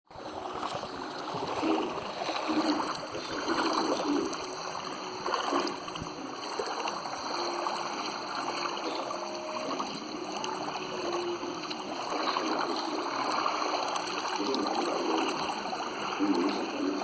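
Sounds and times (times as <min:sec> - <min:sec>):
faint steady hum: 0:00.1 - 0:17.0
water lapping and gurgling: 0:00.1 - 0:17.0.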